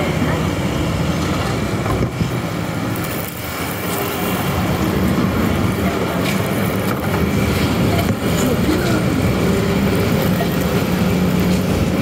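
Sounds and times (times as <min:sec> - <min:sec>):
street traffic engines humming: 0:00.0 - 0:12.0.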